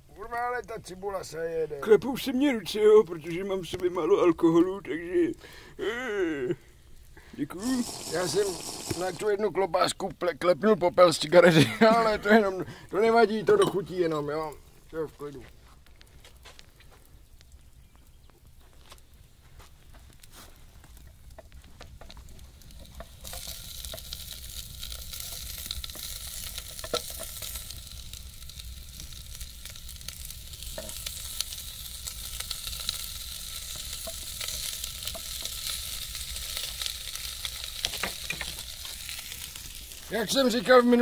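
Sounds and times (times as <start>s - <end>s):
sausage and onion sizzling: 0.0s - 41.0s.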